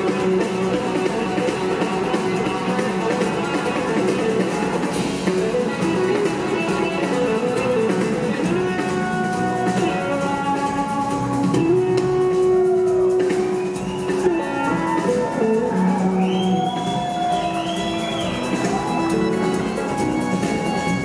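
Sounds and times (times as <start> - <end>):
drums: 0.0 - 21.0
electric guitar lead: 0.0 - 21.0.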